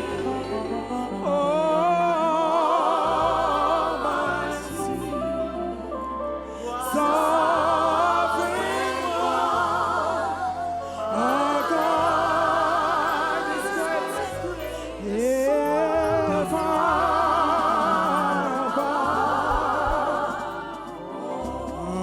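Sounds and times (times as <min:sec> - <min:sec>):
sustained keyboard bass: 0:00.0 - 0:22.0
wordless gospel singing: 0:00.0 - 0:22.0.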